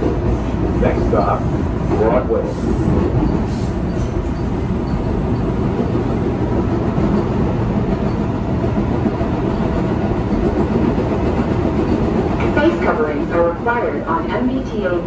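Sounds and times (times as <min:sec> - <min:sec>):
subway car rumbling on rails: 0:00.0 - 0:15.0.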